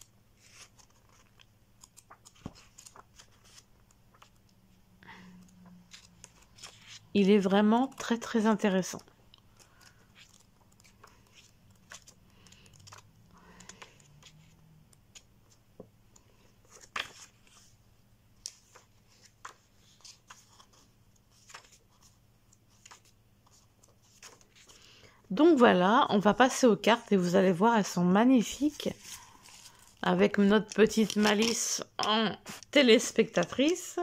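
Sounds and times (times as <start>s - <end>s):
book pages turning: 0.3s - 17.8s, 18.4s - 24.9s, 28.4s - 33.9s.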